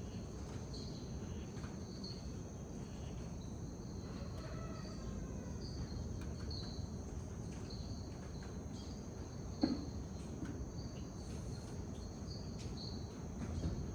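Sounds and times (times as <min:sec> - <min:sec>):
insects trilling: 0:00.0 - 0:13.7.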